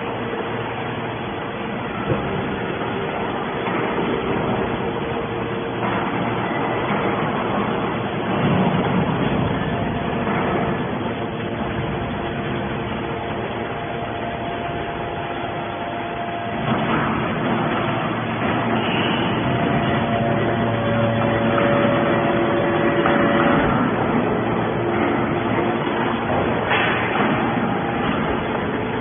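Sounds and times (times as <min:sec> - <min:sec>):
baler machine drone: 0:00.0 - 0:29.0
hydraulic pump whine: 0:00.0 - 0:29.0.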